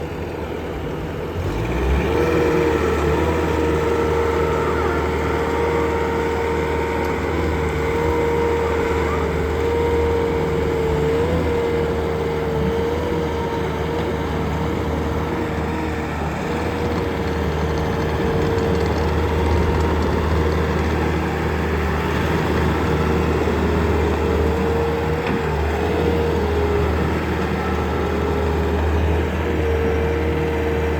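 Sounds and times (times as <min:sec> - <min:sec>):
constant mechanical whine: 0:00.0 - 0:30.9
diesel engine running: 0:00.0 - 0:30.9.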